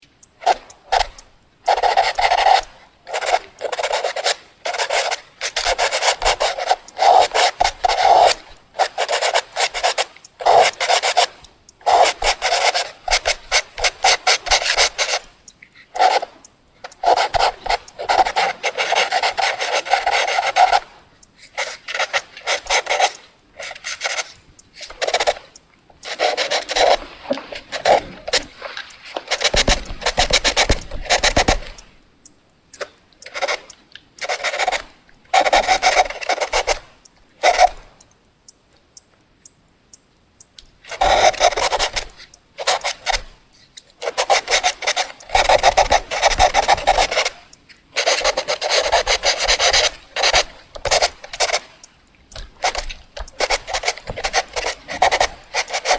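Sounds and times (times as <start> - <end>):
pencil scratching on paper: 0.4 - 32.0, 33.3 - 37.8, 40.9 - 43.3, 44.0 - 55.9.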